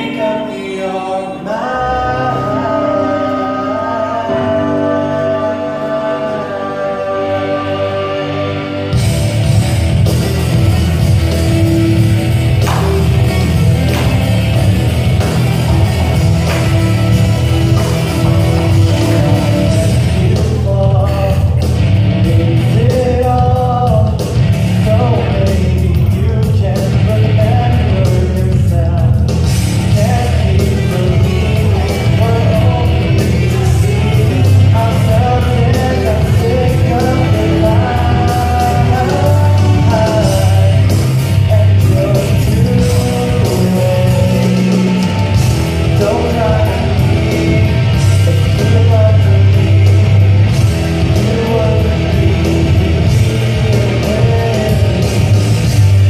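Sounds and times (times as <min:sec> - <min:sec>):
man singing into microphone: 0:00.0 - 0:08.8, 0:12.6 - 0:56.0
rock backing track with heavy guitar: 0:08.3 - 0:56.0.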